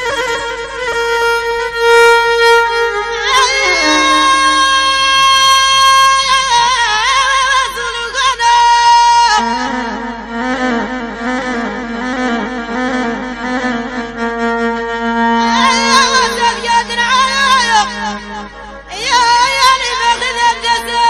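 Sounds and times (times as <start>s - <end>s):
fiddle playing slow melody: 0.0s - 7.3s, 9.4s - 21.0s.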